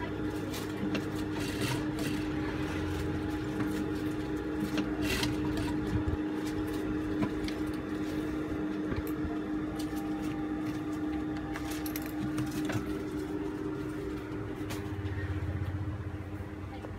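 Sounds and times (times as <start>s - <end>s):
sewing machine motor humming: 0.0s - 16.2s.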